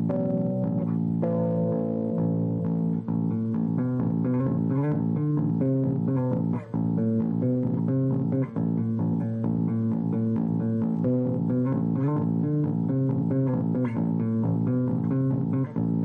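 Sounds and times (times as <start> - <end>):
electric bass guitar playing: 0.0 - 16.0.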